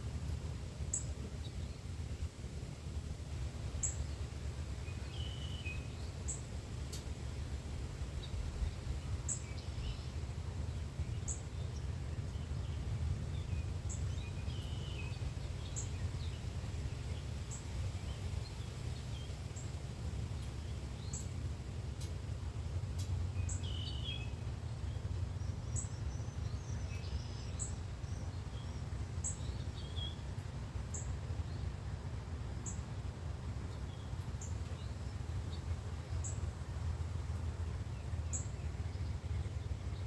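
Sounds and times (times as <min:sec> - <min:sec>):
steady low rumble: 0:00.0 - 0:40.0
lower bird chirps: 0:00.9 - 0:02.2, 0:03.7 - 0:07.1, 0:08.1 - 0:21.4, 0:23.0 - 0:31.7, 0:32.6 - 0:32.8, 0:33.6 - 0:36.6, 0:37.4 - 0:40.0.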